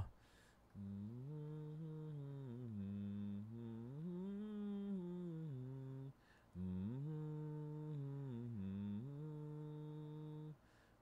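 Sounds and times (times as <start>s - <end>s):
man humming: 0.8s - 10.6s.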